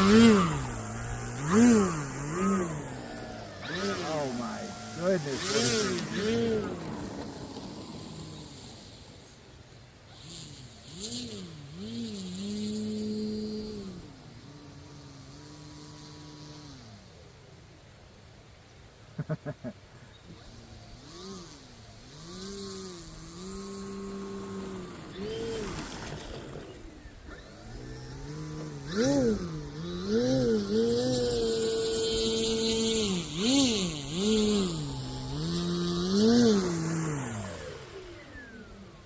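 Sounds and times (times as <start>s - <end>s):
model plane motor revving: 0.0s - 18.1s, 20.2s - 39.0s.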